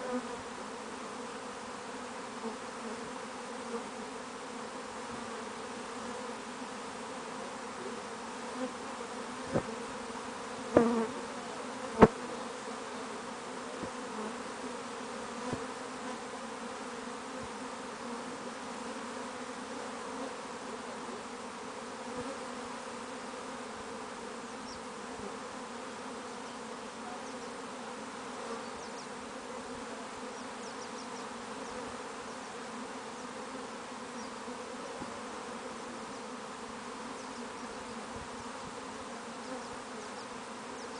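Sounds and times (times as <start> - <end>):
bee swarm buzzing: 0.0 - 40.9.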